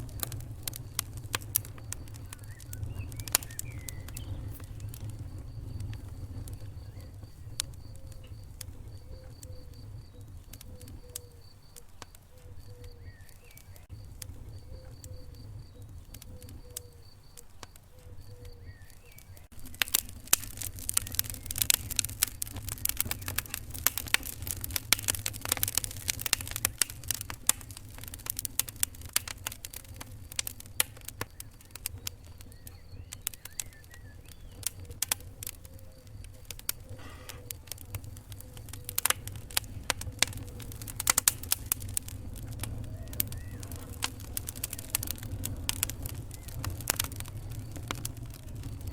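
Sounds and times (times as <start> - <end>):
low steady fire rumble: 0.0 - 48.9
wood fire crackling: 0.0 - 48.9.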